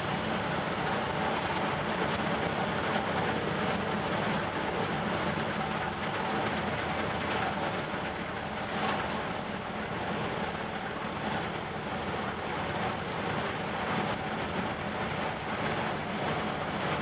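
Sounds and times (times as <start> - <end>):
ferry engines humming: 0.0 - 17.0
wind: 0.0 - 17.0.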